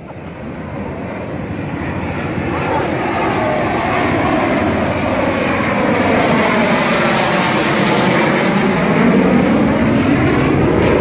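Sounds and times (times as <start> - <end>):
fighter jet noise: 0.0 - 11.0
high jet whine falling in pitch: 0.0 - 11.0.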